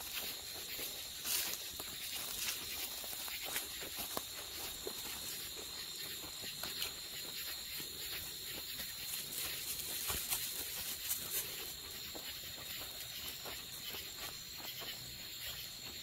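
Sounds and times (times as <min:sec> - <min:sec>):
footsteps on dirt trail: 0:00.0 - 0:16.0
night insects trilling: 0:00.0 - 0:16.0.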